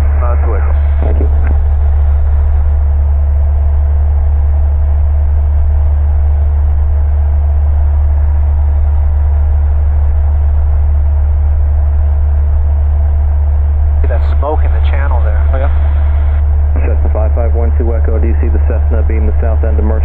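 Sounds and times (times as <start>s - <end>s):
airplane engine and propeller drone: 0.0s - 20.0s.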